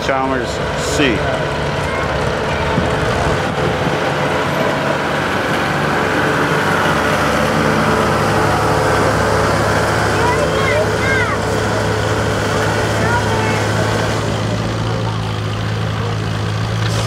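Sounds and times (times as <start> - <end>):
tractor engines idling: 0.0 - 17.0.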